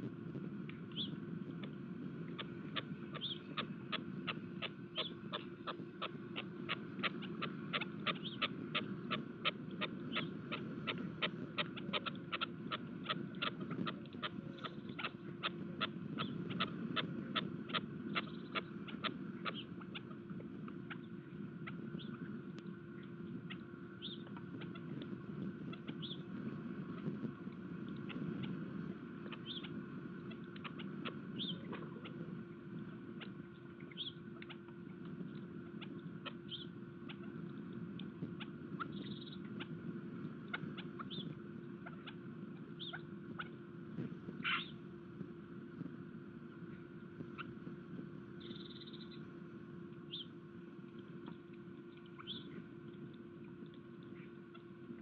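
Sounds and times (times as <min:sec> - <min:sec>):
steady low hum: 0:00.0 - 0:55.0
birds pecking at feeder: 0:00.7 - 0:49.2.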